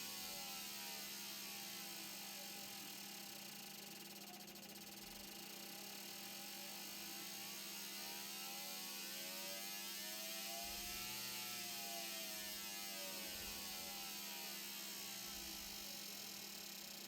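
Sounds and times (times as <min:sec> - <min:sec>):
test machine humming and hissing: 0:00.0 - 0:17.0.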